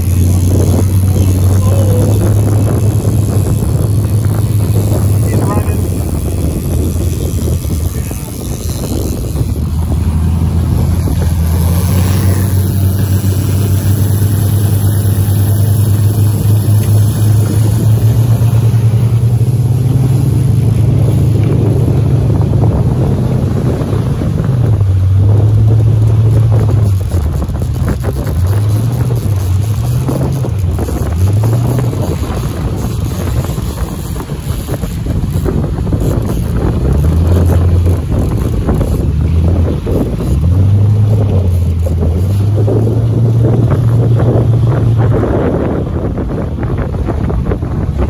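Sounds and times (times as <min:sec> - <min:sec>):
motorboat engine running: 0:00.0 - 0:48.0
water noise: 0:00.0 - 0:48.0
wind: 0:00.0 - 0:48.0.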